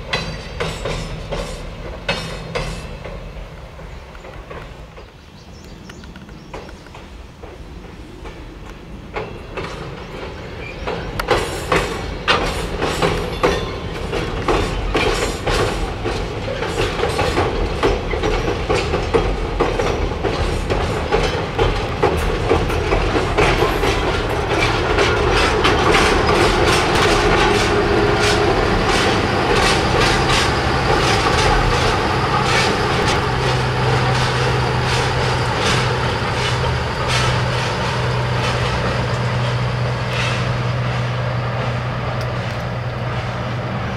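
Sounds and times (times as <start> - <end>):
diesel locomotive engine drone: 0.0 - 43.9
train wheels clicking over rail joints: 0.0 - 43.9.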